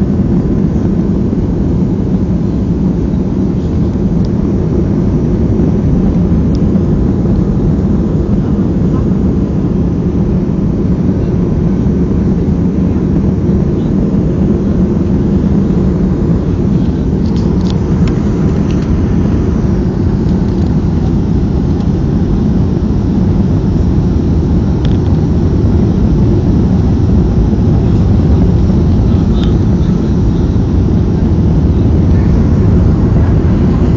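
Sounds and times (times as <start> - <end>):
airliner cabin rumble: 0.0 - 33.9.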